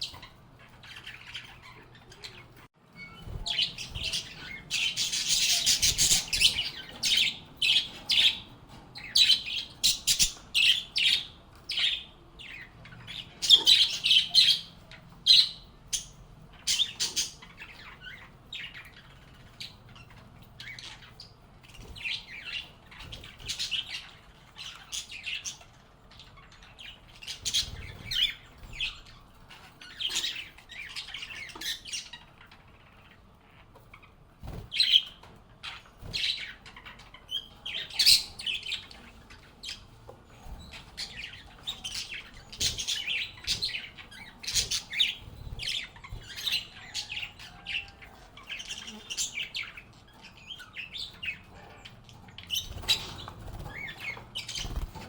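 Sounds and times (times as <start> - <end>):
lovebirds chirping and squawking: 0.0 - 55.0.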